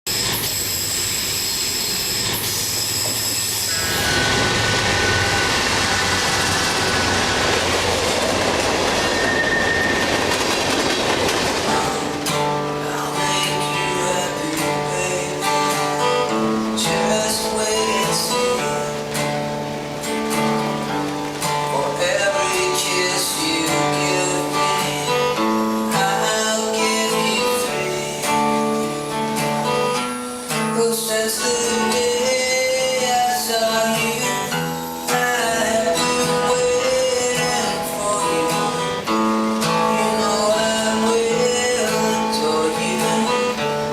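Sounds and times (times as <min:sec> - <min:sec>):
acoustic guitar melody: 0:00.1 - 0:43.9
high wheel squeals: 0:00.1 - 0:43.9
train running by: 0:00.1 - 0:43.9.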